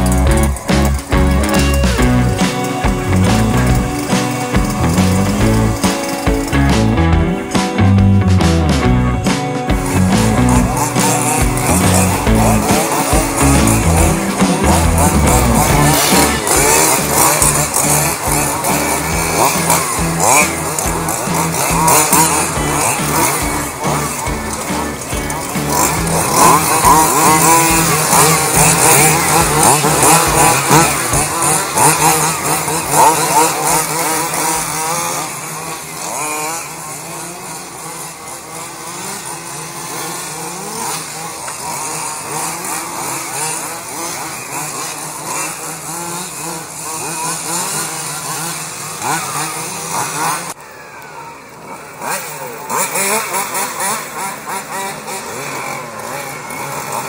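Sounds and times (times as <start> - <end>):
rc car engines buzzing and revving: 0.0 - 57.0.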